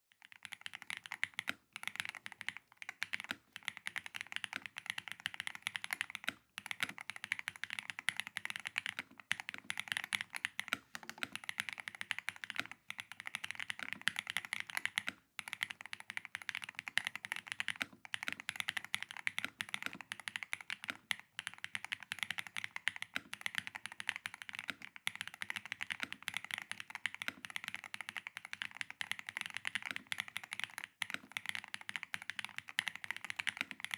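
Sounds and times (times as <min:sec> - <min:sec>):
mechanical keyboard typing: 0:00.2 - 0:33.9.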